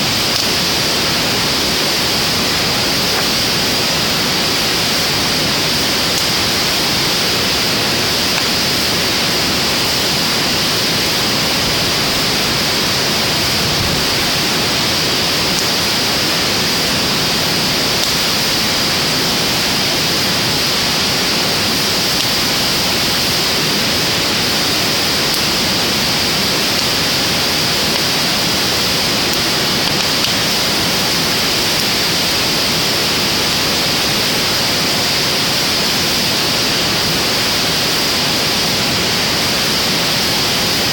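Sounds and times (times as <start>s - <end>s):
fire burning with rushing hiss: 0.0s - 40.9s.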